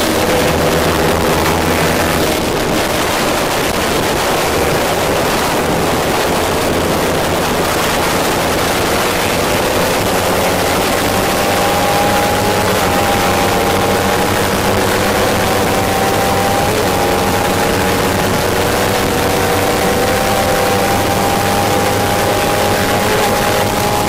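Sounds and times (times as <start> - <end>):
motorcycle engine accelerating: 0.0 - 24.0
wind rush over camera: 0.0 - 24.0.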